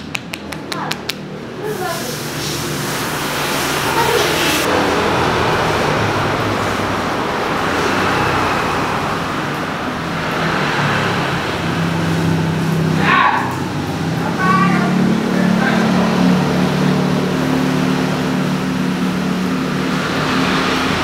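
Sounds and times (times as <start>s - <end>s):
passing vehicles rushing: 0.0s - 21.0s.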